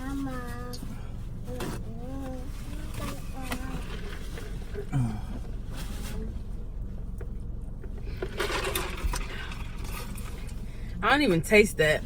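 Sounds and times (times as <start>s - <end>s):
car engine drone inside cabin: 0.0s - 12.0s.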